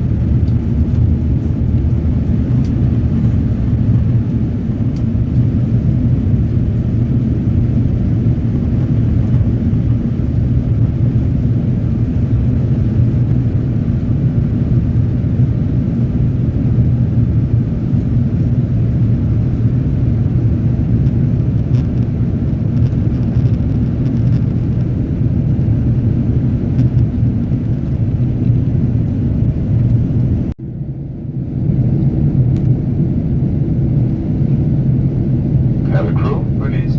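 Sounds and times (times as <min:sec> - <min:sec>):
jet engine cabin rumble: 0:00.0 - 0:36.9.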